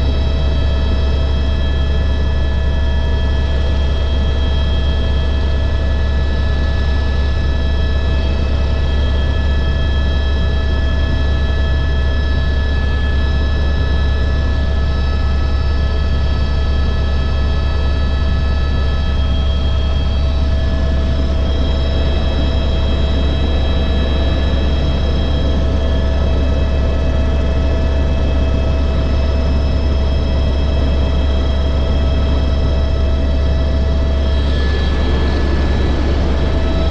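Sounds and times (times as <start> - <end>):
helicopter rotor drone: 0.0 - 36.9
high turbine whine: 0.0 - 36.9.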